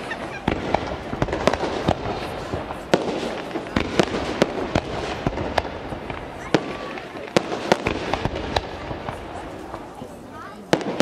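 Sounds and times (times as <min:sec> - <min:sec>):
firework shells bursting: 0:00.0 - 0:10.0
firework crackle: 0:00.0 - 0:11.0.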